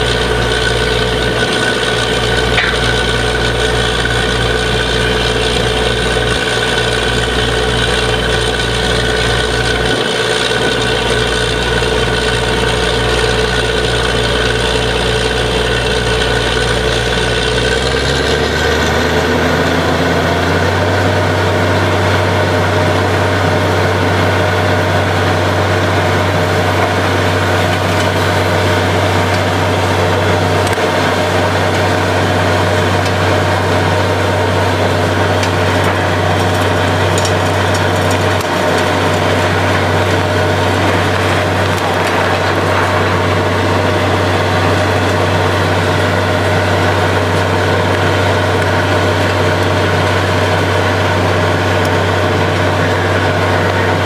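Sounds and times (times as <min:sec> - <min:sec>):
drilling rig engine running: 0:00.0 - 0:54.0.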